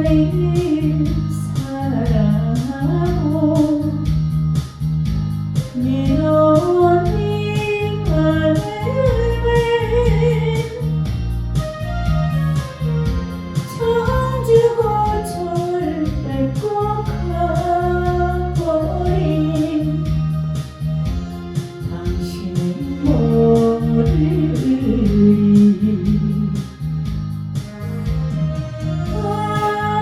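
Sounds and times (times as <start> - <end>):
person singing over backing track: 0.0 - 4.2, 5.6 - 11.0, 12.3 - 26.9, 27.6 - 30.0.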